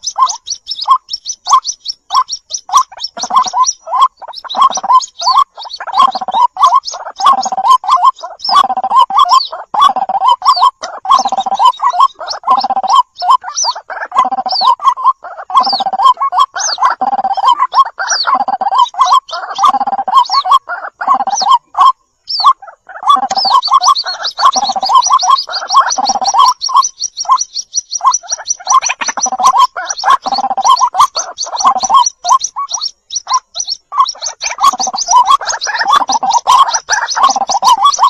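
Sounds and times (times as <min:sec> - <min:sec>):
high fast peeping: 0:00.0 - 0:38.0
waterhens harsh calls: 0:00.0 - 0:38.0.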